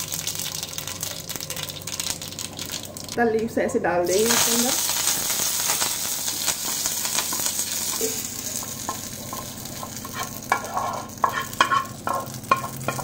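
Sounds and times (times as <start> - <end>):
spices sizzling in hot oil: 0.0 - 3.2, 4.0 - 13.0.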